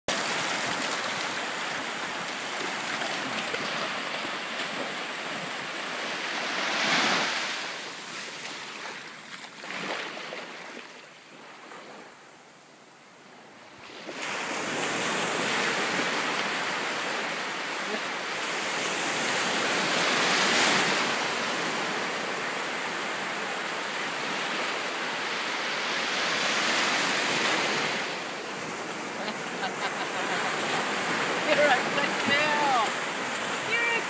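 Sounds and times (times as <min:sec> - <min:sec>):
small ocean waves breaking: 0:00.1 - 0:12.2, 0:13.7 - 0:34.0.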